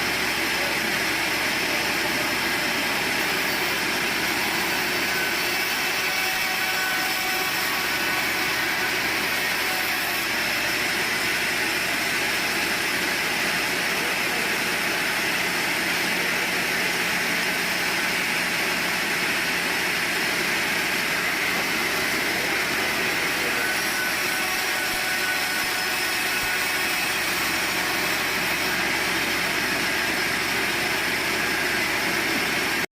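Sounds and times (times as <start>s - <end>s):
sawmill machinery whirring: 0.0s - 32.9s.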